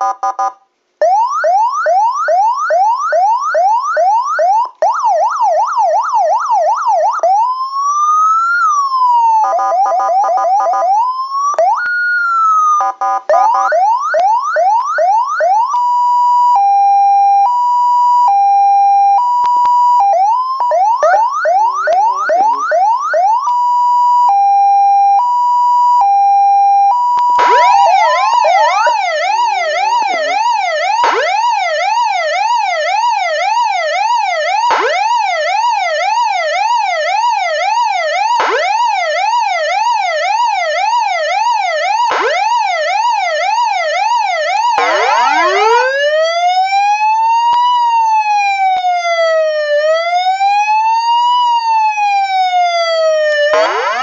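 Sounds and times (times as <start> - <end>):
fire truck siren warble: 0.0 - 54.0
electronic siren yelp sweeps: 1.0 - 54.0
two-note hi-lo siren: 8.4 - 54.0.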